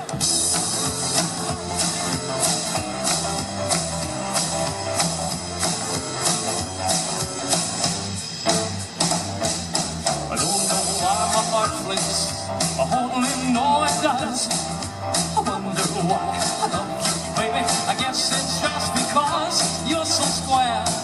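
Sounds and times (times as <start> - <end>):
bass line: 0.0 - 21.0
drum kit beat: 0.0 - 21.0
electric guitar: 0.0 - 21.0.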